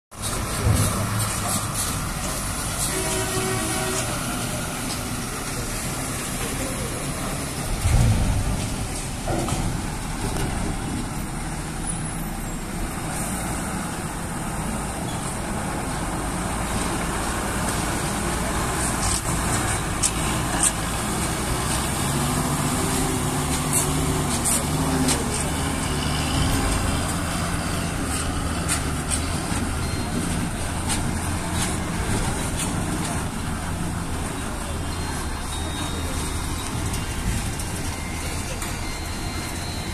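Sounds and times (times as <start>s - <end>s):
diesel truck engine drone: 0.2s - 39.9s.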